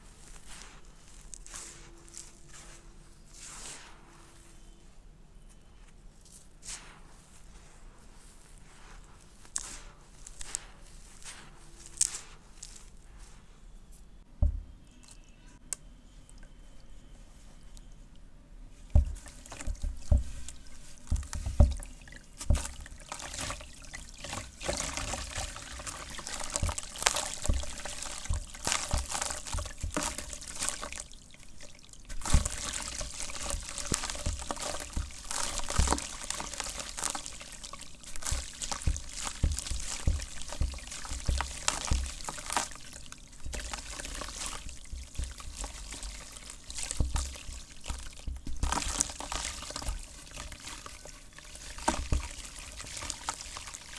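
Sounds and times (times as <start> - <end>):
dirt crumbling and fizzing in water: 0.0 - 4.0, 6.3 - 13.5, 18.7 - 53.9.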